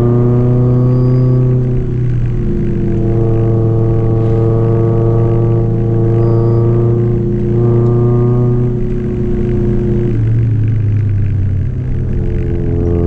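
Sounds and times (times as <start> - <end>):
car engine from inside cabin: 0.0 - 13.0.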